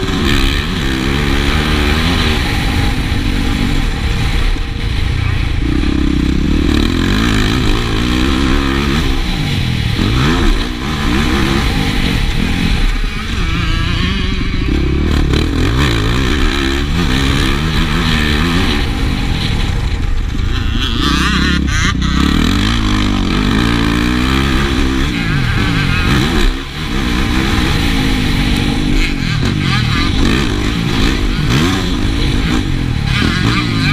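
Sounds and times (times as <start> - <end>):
motocross engine revving: 0.0 - 33.9.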